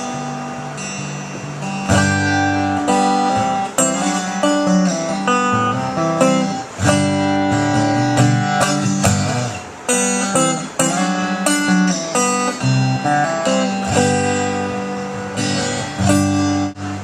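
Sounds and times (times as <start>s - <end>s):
live band playing guitar-led music: 0.0s - 17.0s.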